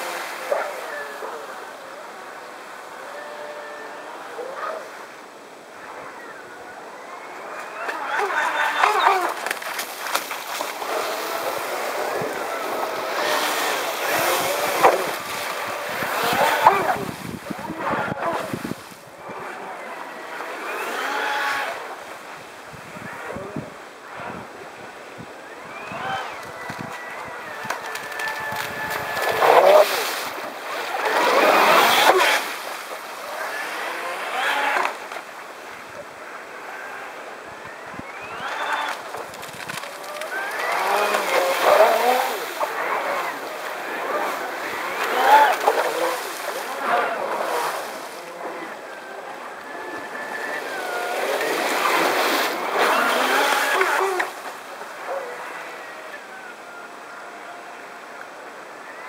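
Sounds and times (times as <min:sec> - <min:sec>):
rushing water and spray: 0:00.0 - 0:04.3, 0:04.9 - 0:59.0
boat engine whine: 0:00.0 - 0:59.0.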